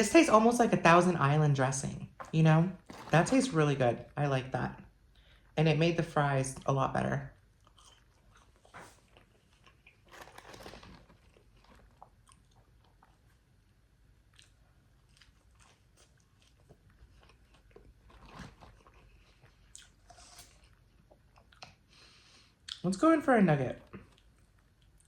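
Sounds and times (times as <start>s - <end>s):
chewing and crunching food: 2.0s - 4.1s, 6.5s - 25.0s.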